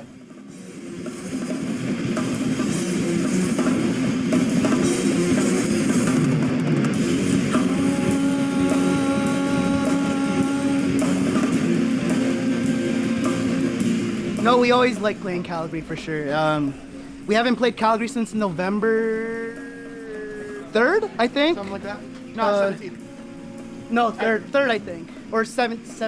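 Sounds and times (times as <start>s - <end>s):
distorted electric guitar: 0.0s - 26.0s
drum kit: 0.0s - 26.0s.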